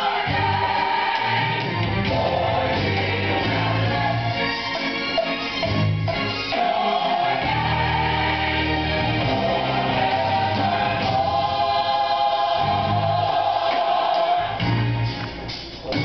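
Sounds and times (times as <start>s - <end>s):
gospel choir singing: 0.0s - 15.3s.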